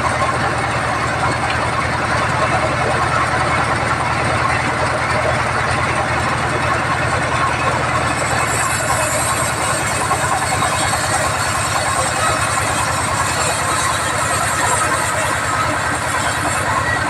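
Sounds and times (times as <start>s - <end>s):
band saw motor chugging: 0.0s - 17.0s
hissing machine noise: 0.0s - 17.0s.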